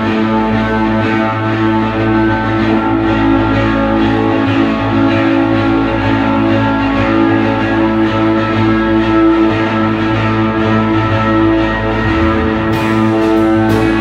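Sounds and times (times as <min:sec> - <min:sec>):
band playing sustained guitar chords: 0:00.0 - 0:14.0.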